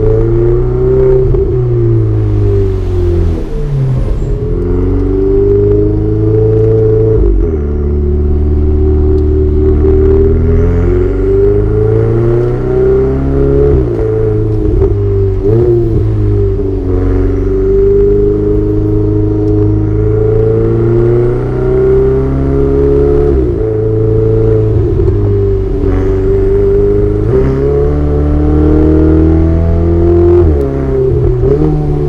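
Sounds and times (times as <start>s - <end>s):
sports car engine revving: 0.0s - 32.0s.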